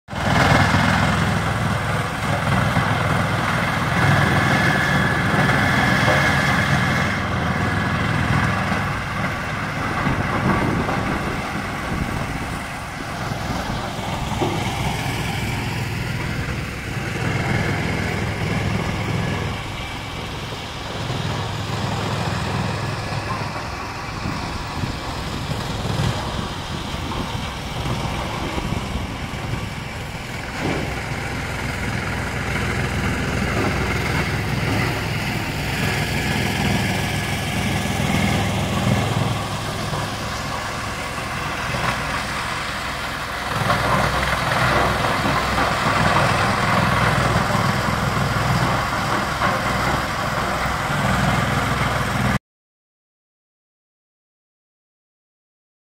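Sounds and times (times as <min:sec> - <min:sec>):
wood chipper running: 0:00.1 - 0:52.4.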